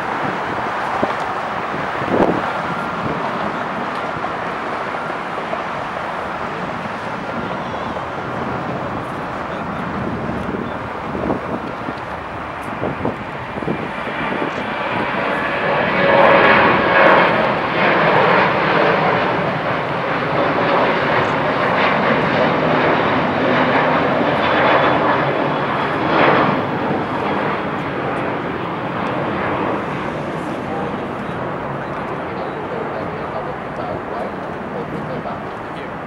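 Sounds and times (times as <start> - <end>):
jet airliner taking off: 0.0 - 36.0.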